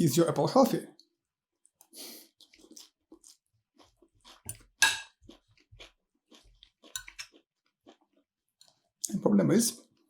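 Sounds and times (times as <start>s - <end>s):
chewing and crunching food: 0.9s - 10.0s.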